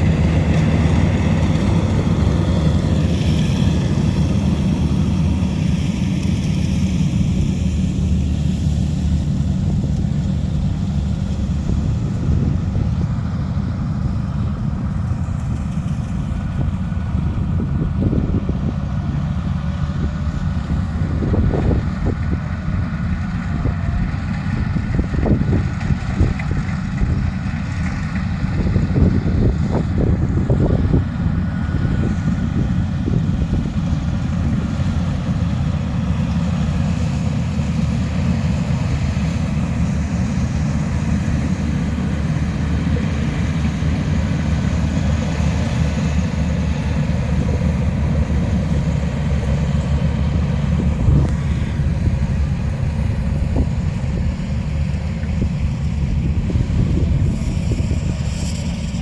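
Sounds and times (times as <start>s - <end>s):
engine running with low rumble: 0.0s - 59.0s
wind buffeting microphone: 0.0s - 59.0s.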